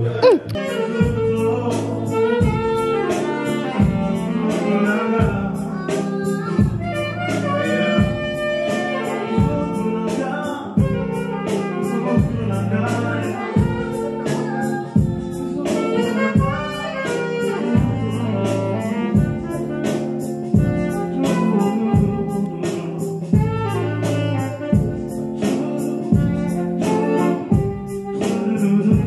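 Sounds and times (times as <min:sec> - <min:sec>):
bass and drums: 0:00.0 - 0:29.0
saxophone melody: 0:00.0 - 0:29.0.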